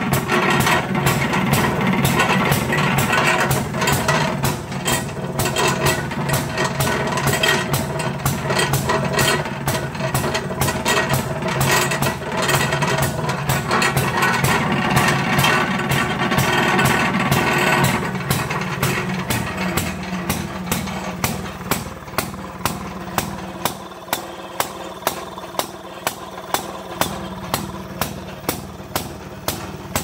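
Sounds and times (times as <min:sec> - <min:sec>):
two-stroke engine popping exhaust: 0:00.0 - 0:30.0.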